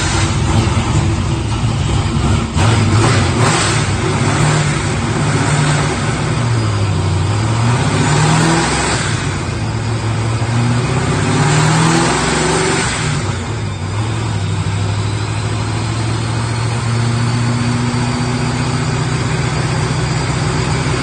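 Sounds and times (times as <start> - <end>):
loud engine revving: 0.0 - 21.0.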